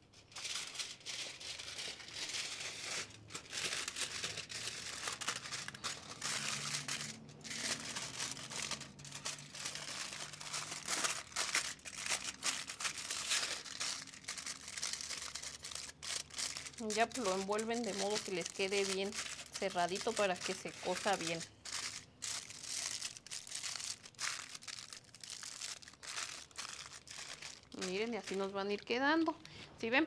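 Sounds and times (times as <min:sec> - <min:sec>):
aluminium foil crinkling: 0:00.0 - 0:29.6.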